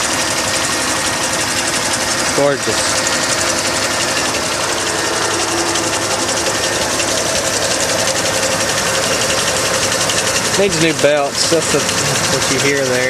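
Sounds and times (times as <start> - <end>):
engine idling with mechanical chatter: 0.0 - 13.0
faint accessory drive whine: 0.5 - 13.0.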